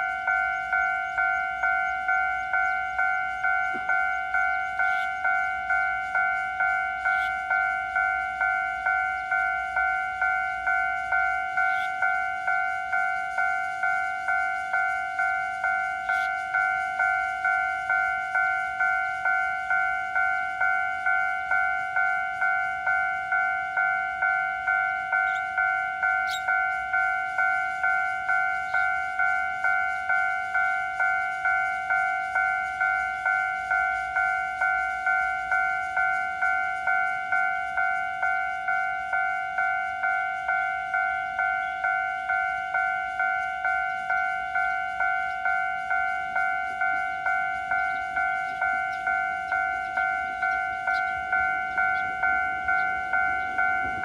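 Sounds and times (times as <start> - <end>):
level crossing warning bell ringing: 0.0 - 54.0.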